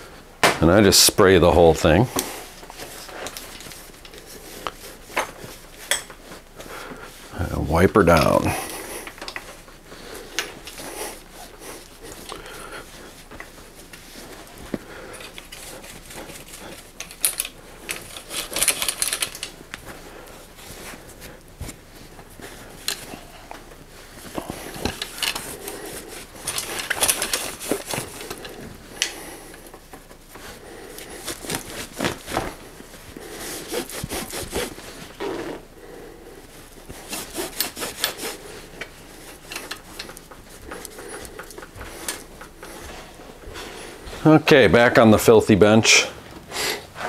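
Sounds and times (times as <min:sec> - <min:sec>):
cloth rag rubbing on bike frame: 0:01.0 - 0:18.2, 0:19.5 - 0:45.3.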